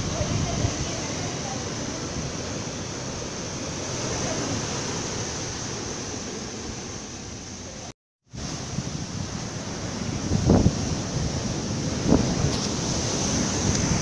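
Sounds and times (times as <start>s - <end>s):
waves breaking on beach: 0.0s - 14.0s.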